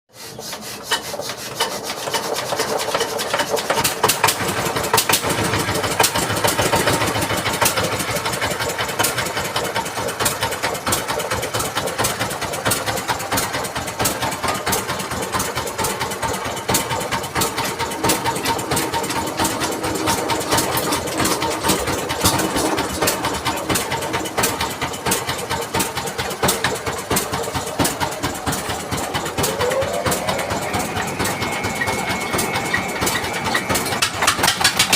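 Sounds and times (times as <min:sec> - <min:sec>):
diesel engine knocking: 0:00.5 - 0:34.9.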